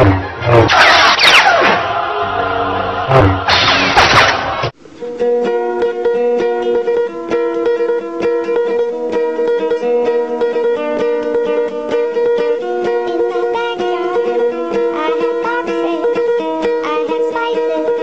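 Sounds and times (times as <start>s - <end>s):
ukulele picked and strummed: 1.6s - 18.0s.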